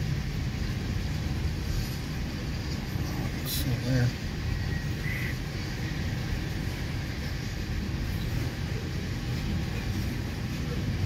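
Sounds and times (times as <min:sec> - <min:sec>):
steel wheels rumbling on rail: 0:00.0 - 0:11.0.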